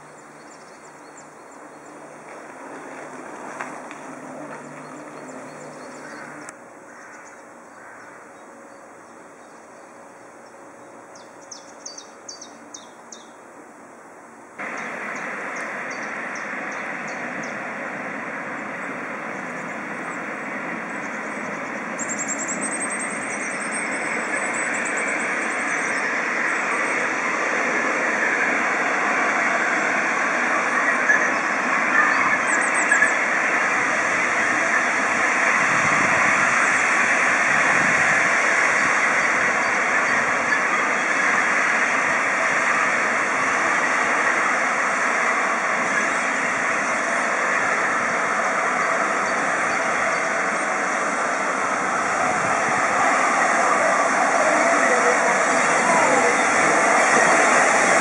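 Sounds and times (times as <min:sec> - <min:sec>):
steam locomotive rushing: 0:00.0 - 0:06.8, 0:07.5 - 0:58.0.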